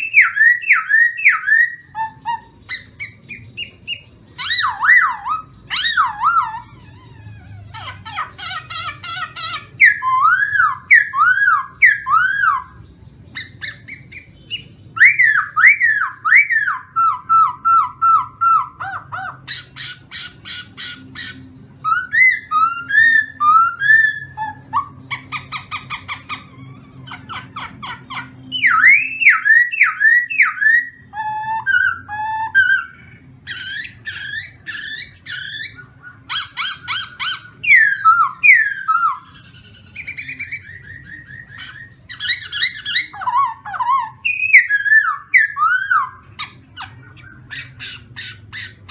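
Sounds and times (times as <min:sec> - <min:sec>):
bird singing whistled notes: 0:00.0 - 0:06.8, 0:08.4 - 0:48.9
bird chattering: 0:00.0 - 0:48.9.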